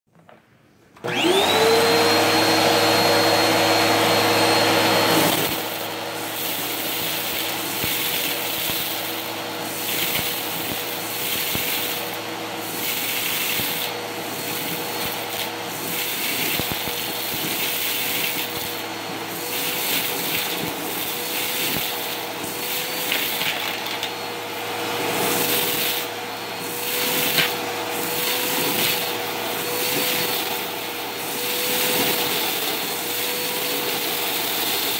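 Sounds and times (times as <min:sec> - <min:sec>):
vacuum cleaner motor whine: 0:01.0 - 0:34.9.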